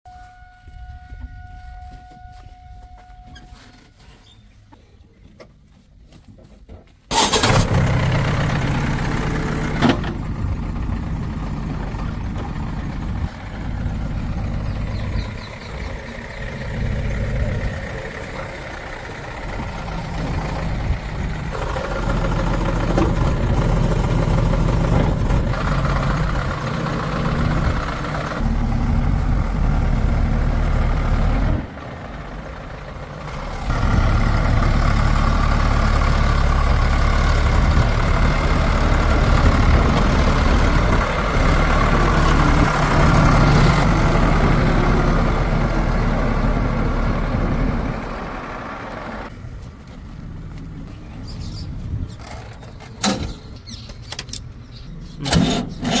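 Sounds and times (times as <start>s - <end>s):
diesel engines running: 0.1s - 56.0s.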